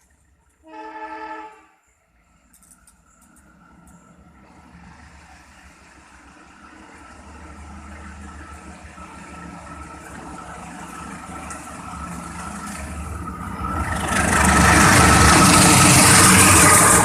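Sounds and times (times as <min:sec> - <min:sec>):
locomotive engine rumble: 0:00.0 - 0:17.0
train rushing past: 0:00.0 - 0:17.0.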